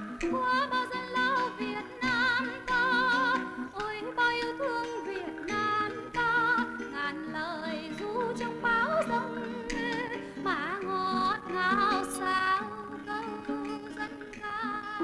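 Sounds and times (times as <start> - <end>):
instrumental accompaniment: 0.0 - 15.0
woman singing with vibrato: 0.0 - 15.0.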